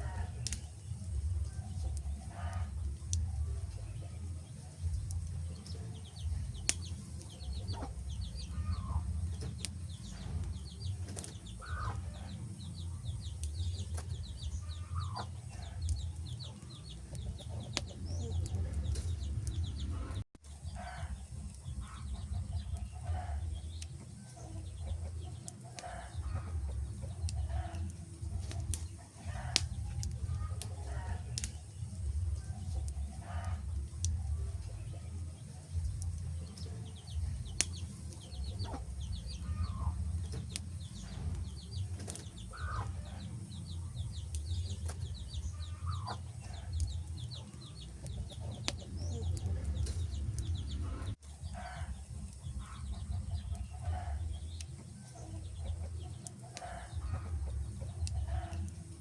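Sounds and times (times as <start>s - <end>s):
low steady rumble: 0.0s - 24.0s, 24.6s - 54.7s
birds calling: 0.0s - 59.0s
wood fire crackling: 0.0s - 59.0s.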